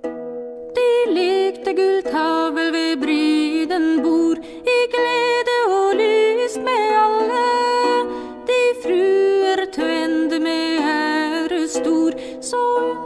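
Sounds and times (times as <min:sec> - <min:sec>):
slow folk ballad melody: 0:00.0 - 0:13.0.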